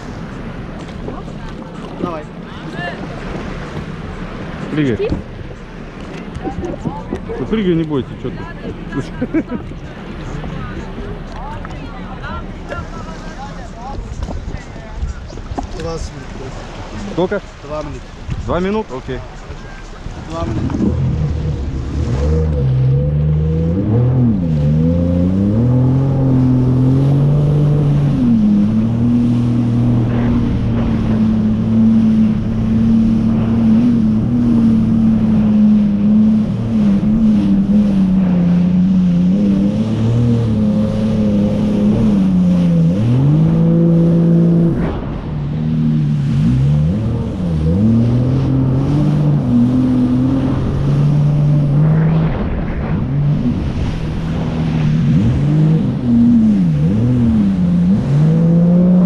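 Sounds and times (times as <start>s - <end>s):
jet ski engine running: 0.0s - 59.0s.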